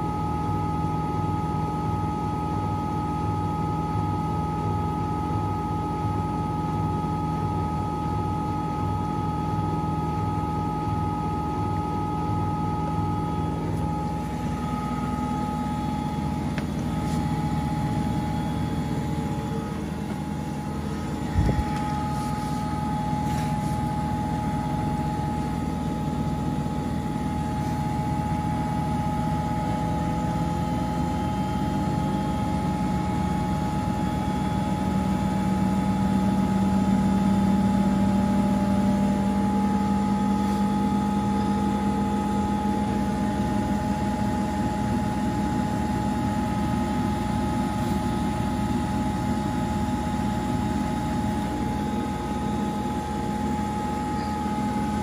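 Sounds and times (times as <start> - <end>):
washing machine motor whine: 0.0 - 55.0.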